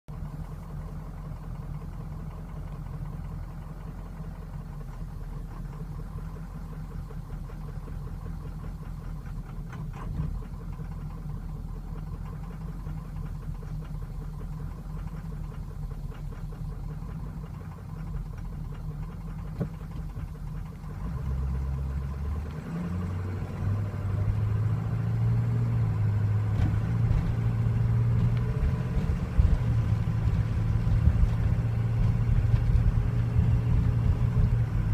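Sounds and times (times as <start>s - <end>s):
diesel engine rough idle: 0.1s - 34.9s.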